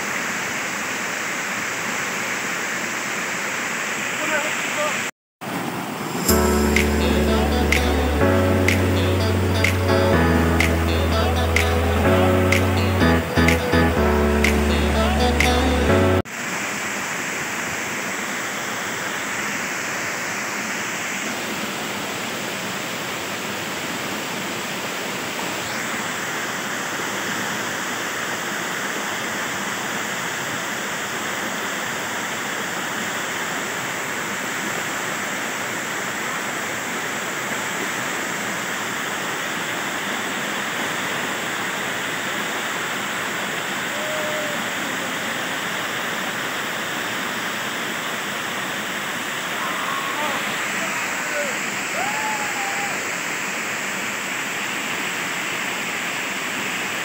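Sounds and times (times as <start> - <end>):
waterfall rushing over rocks: 0.0 - 57.0.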